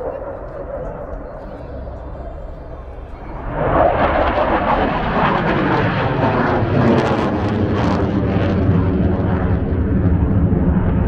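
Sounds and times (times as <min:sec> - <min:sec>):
jet fighter flying overhead: 0:00.0 - 0:11.0.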